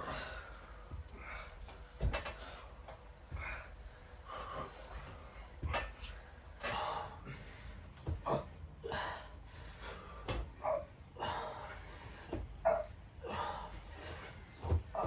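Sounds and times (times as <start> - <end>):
people breathing hard: 0.0 - 15.0.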